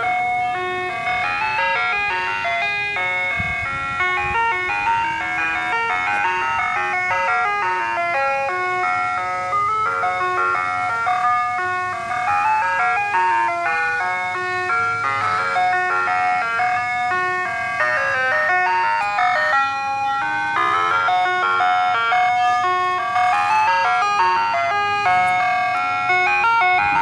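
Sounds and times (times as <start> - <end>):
ice cream truck chime tune: 0.0 - 27.0.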